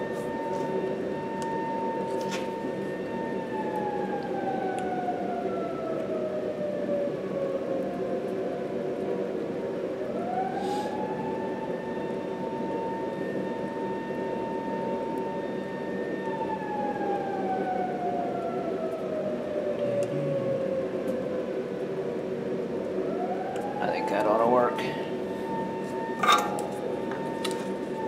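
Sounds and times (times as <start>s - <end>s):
fire siren winding up and down: 0.0s - 28.0s.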